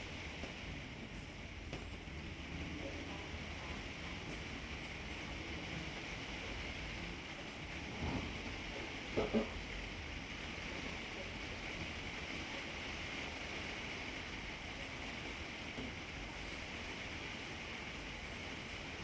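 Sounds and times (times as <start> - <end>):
rain falling in wind: 0.0 - 19.0.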